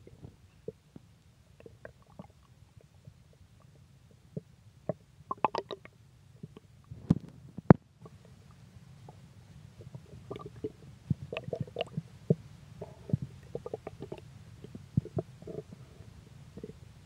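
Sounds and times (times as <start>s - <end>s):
stomach growling: 1.6s - 16.9s.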